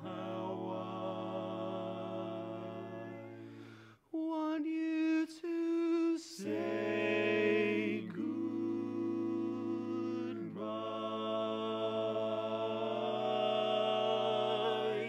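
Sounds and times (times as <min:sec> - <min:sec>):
male quartet singing a cappella: 0:00.0 - 0:03.6, 0:04.4 - 0:15.0.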